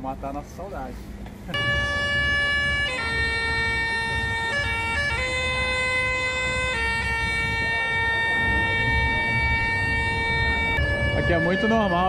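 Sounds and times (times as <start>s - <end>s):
low street rumble: 0.0s - 12.0s
busker playing slow melody: 1.4s - 12.0s.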